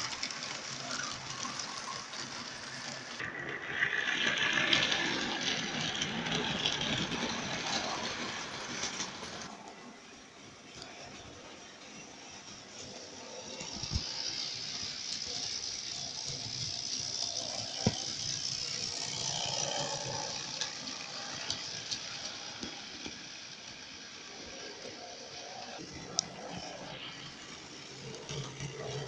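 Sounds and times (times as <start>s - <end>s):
model train whirring and rattling: 0.0s - 29.0s.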